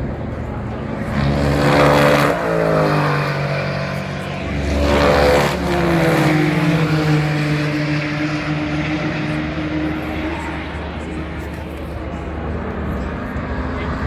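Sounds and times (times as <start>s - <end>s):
race cars passing at speed: 0.0s - 14.0s.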